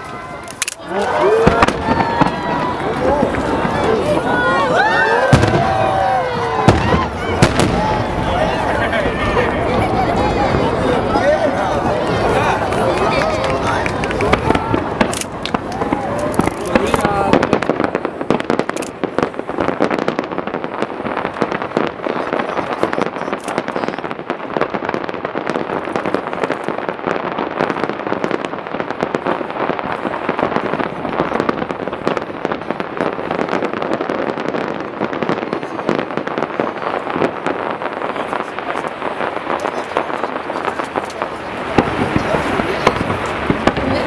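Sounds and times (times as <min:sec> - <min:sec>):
fireworks crackling: 0:00.0 - 0:44.0.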